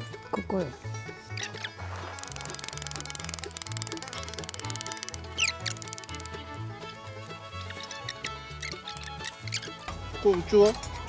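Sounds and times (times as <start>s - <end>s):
bouncy background music: 0.0s - 11.0s.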